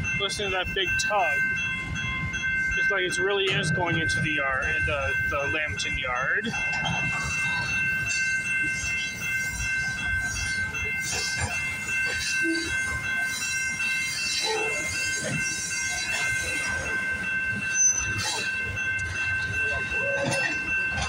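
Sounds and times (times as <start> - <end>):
high ringing tones: 0.0 - 21.0
train wheels rumbling on rails: 0.0 - 21.0
wheels clacking over rail joints: 0.0 - 21.0.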